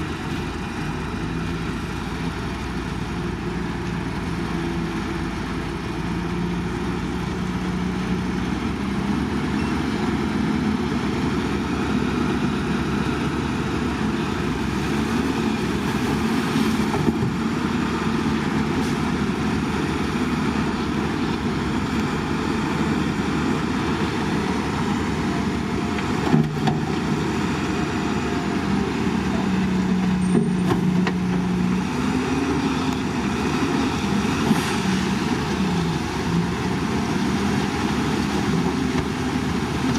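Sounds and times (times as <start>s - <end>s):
diesel earthmover engine: 0.0s - 39.9s.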